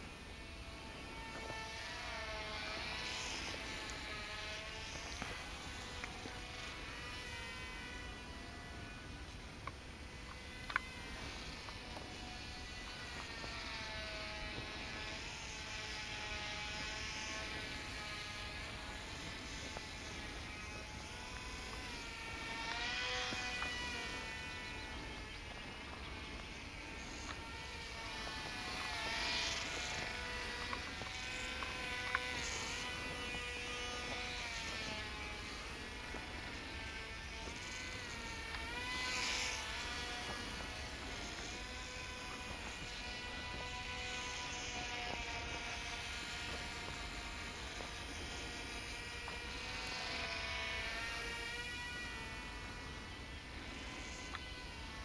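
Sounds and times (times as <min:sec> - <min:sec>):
rc plane motors buzzing: 0:00.0 - 0:55.0.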